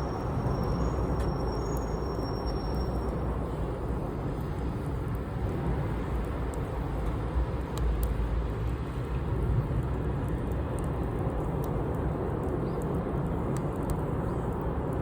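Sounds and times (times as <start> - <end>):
campfire burning: 0.0 - 15.0
fire crackles: 0.0 - 15.0.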